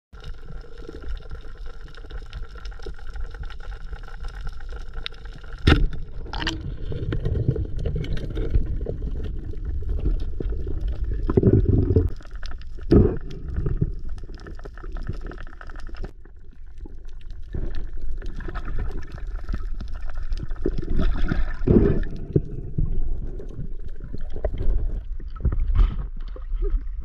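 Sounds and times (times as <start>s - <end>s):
low churning water: 0.2s - 27.0s
underwater rush of water: 0.2s - 27.0s.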